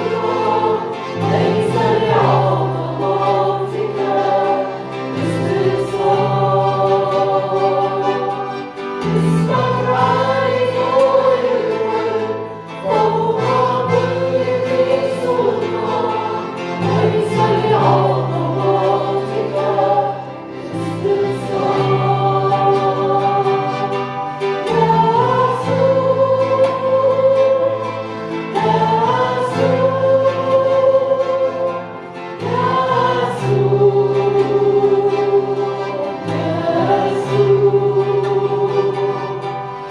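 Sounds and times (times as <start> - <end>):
congregation singing a hymn: 0.0 - 39.9
instrumental accompaniment: 0.0 - 39.9.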